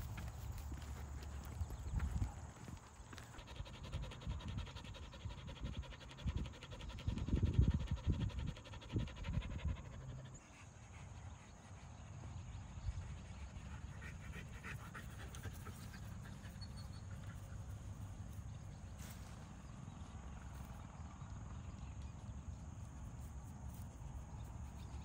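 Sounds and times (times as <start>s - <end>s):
dog panting: 0.0s - 20.9s.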